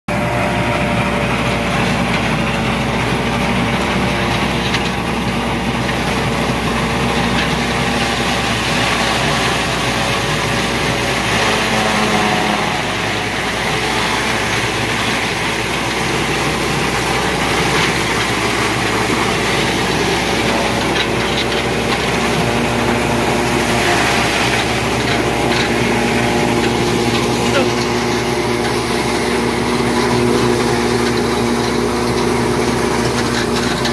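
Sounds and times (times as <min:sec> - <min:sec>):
grass chopper hissing: 0:00.1 - 0:33.9
tractor engine hum: 0:00.1 - 0:33.9.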